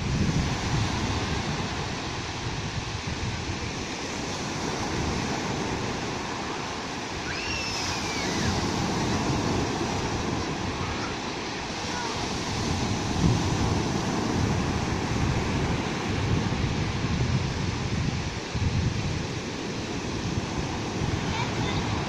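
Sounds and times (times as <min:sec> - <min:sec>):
sea surf washing on beach: 0:00.0 - 0:22.0.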